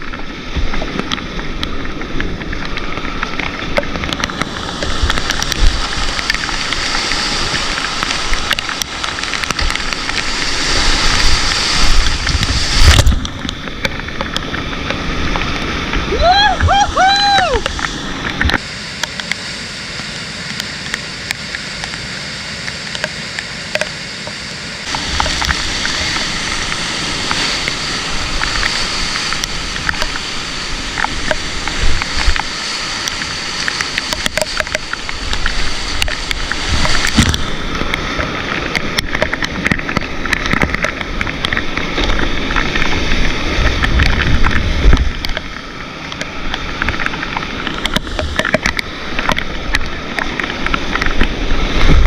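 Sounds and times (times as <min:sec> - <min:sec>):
knocks and splashes: 0:00.0 - 0:19.5, 0:24.8 - 0:52.0
rushing white water: 0:00.0 - 0:52.0.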